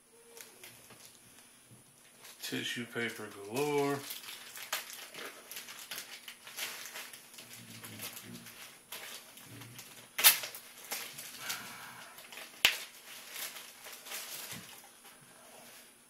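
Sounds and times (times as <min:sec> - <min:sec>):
tissue paper rustling: 0:02.2 - 0:16.0.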